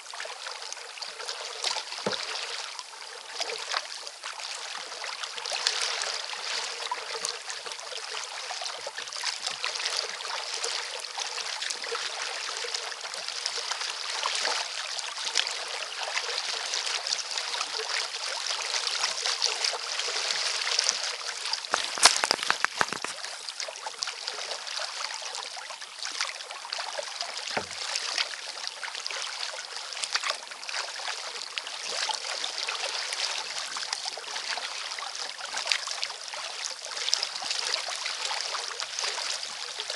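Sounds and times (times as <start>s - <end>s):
small waves lapping against hull: 0.0s - 39.9s.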